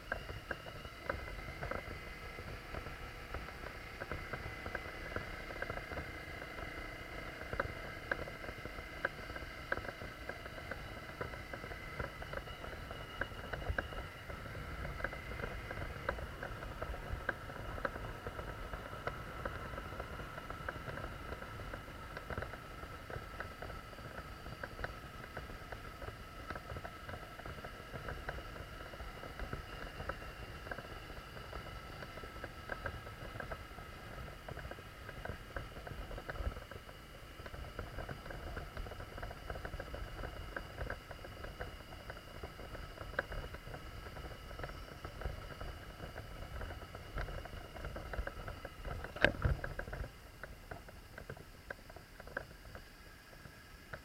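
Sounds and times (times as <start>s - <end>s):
gravel crackling under tyres: 0.0s - 54.0s
motorcycle running: 0.0s - 54.0s.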